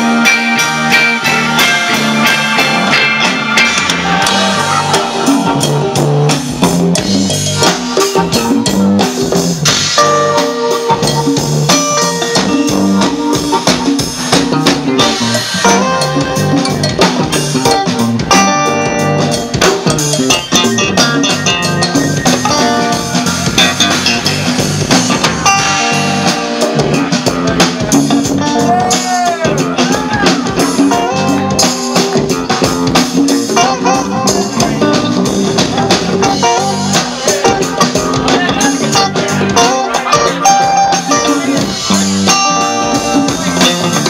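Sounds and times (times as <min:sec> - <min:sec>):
drum kit: 0:00.0 - 0:44.0
electric bass: 0:00.0 - 0:44.0
electric guitar: 0:00.0 - 0:44.0.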